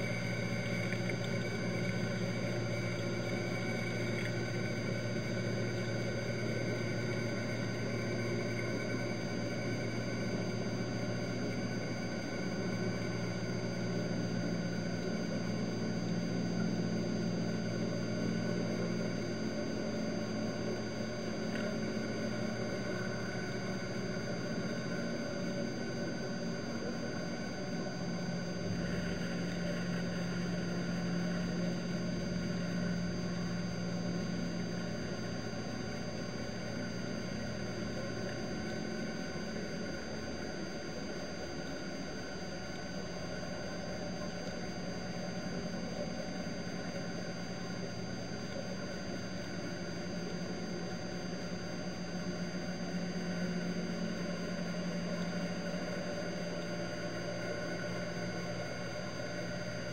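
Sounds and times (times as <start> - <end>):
boat engine drone underwater: 0.0 - 59.9.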